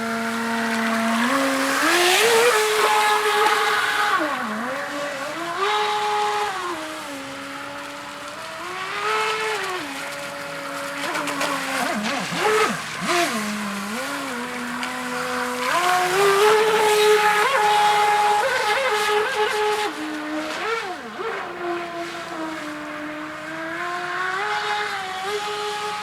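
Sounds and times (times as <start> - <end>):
boat motor whining: 0.0 - 26.0.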